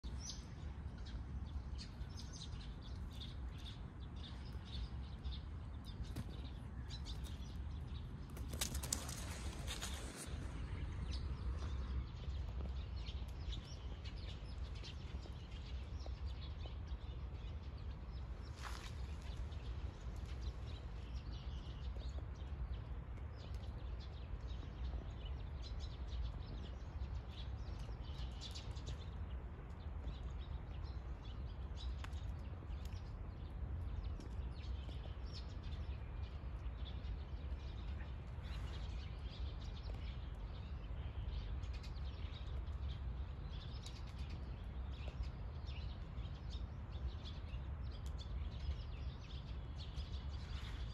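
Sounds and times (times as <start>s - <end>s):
faint ticks and rustles: 0.0s - 50.9s.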